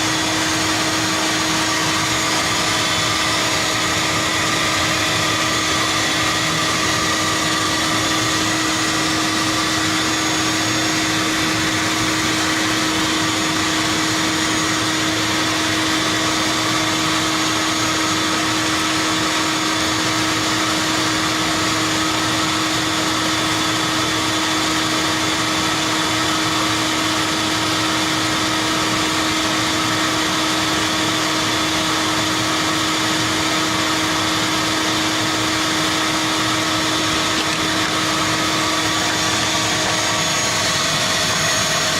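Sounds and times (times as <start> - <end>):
shop vac motor drone: 0.0 - 41.9.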